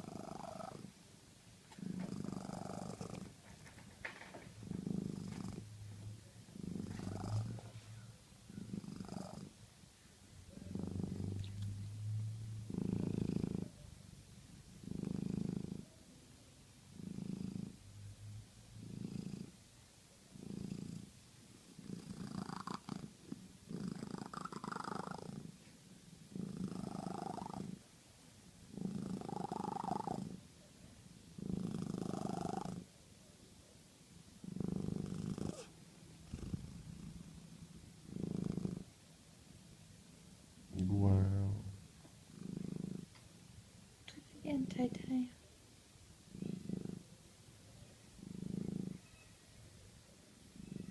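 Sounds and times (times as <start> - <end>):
cat purring: 0.0 - 1.0, 1.6 - 9.8, 10.4 - 16.0, 16.8 - 19.6, 20.3 - 27.9, 28.6 - 30.6, 31.2 - 33.0, 34.4 - 39.8, 40.7 - 45.5, 46.2 - 49.2, 50.1 - 50.9.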